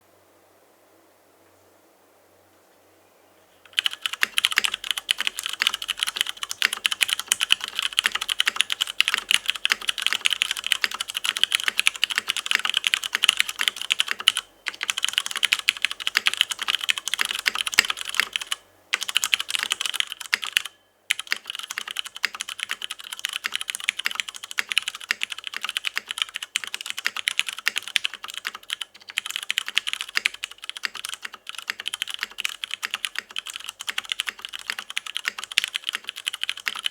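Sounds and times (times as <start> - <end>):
mechanical keyboard typing: 3.7 - 36.9.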